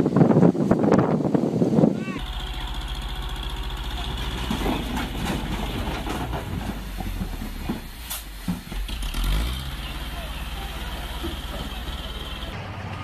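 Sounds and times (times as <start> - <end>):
large engine running: 2.2 - 13.0.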